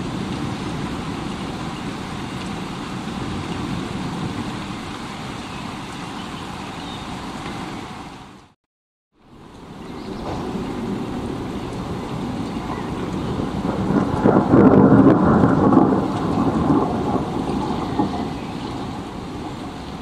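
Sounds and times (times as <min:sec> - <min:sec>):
heavy rain: 0:00.0 - 0:08.6, 0:09.2 - 0:20.0.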